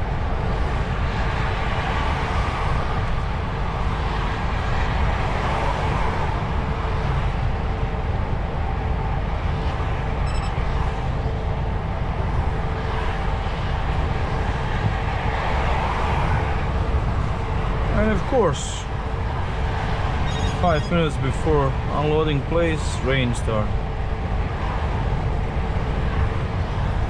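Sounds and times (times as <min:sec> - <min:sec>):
truck engine and road noise: 0:00.0 - 0:27.0.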